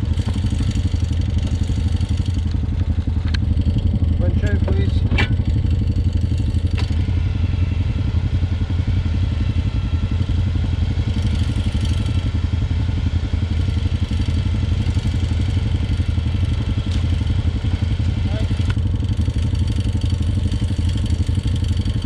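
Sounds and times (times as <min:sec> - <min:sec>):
atv engine idling: 0:00.0 - 0:22.0.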